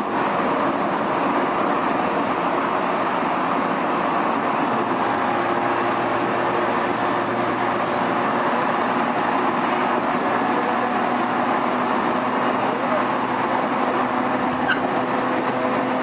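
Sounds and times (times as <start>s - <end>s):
electric train mechanical hum: 0.0s - 16.0s.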